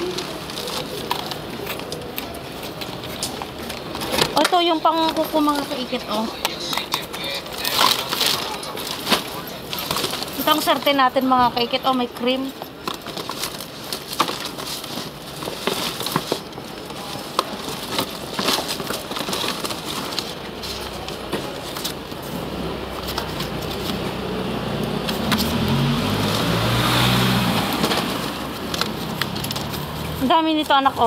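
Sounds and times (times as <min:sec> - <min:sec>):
rummaging through boxes and bags: 0:00.0 - 0:31.0
vehicle engine hum: 0:00.0 - 0:31.0.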